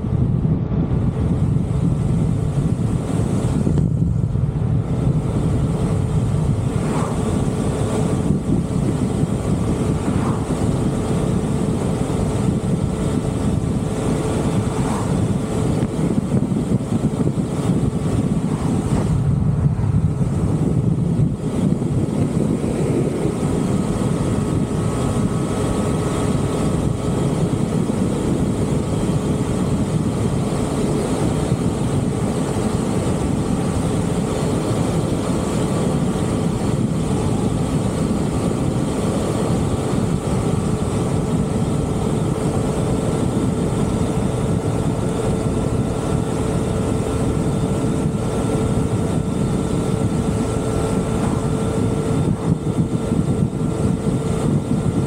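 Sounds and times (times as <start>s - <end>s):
vehicle engine hum: 0.0s - 55.0s
wind and road noise: 0.0s - 55.0s.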